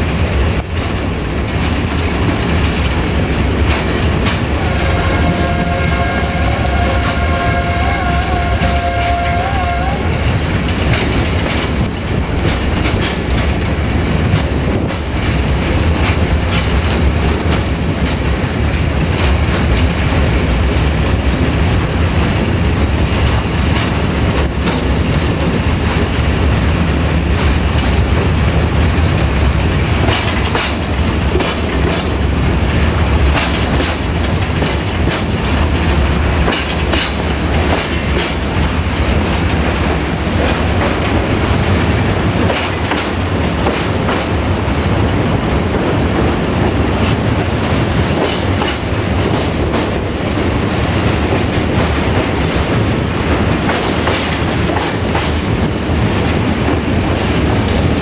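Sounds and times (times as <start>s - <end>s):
diesel locomotive rumble: 0.0s - 58.0s
train wheels clicking over rail joints: 0.0s - 58.0s.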